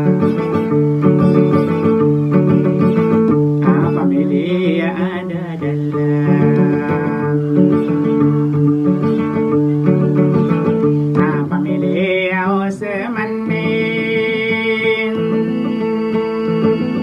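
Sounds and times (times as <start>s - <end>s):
man singing: 0.0s - 2.0s, 2.9s - 17.0s
acoustic guitar: 0.0s - 17.0s.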